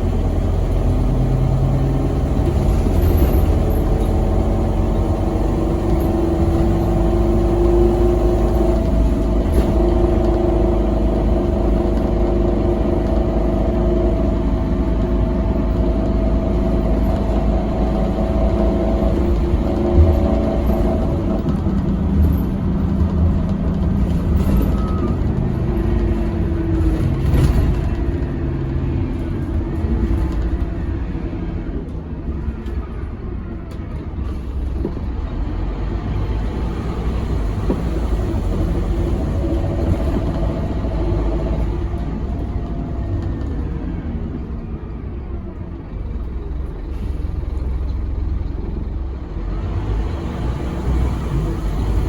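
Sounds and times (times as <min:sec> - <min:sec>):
bus diesel engine rumbling: 0:00.0 - 0:52.0.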